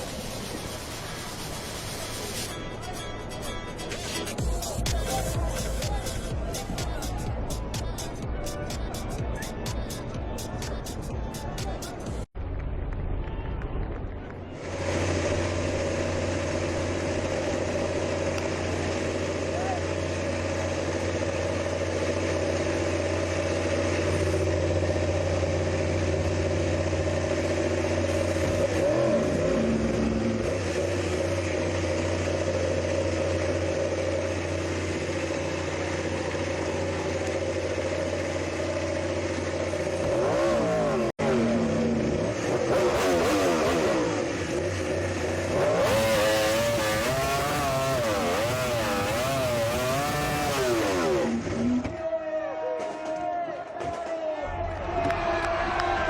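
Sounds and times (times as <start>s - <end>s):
racing motorcycle engines droning: 0.0s - 56.0s.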